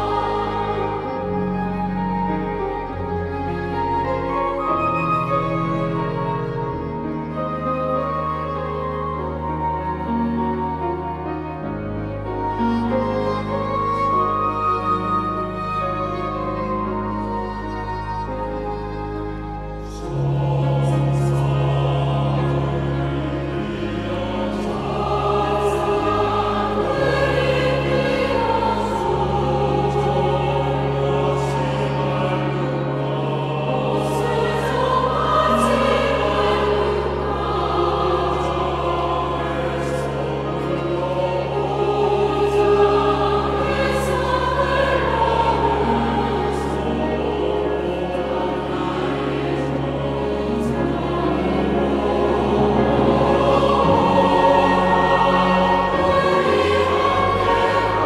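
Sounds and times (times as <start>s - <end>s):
choir singing a hymn: 0.0s - 58.0s
organ bass notes: 0.0s - 58.0s
piano: 0.0s - 58.0s.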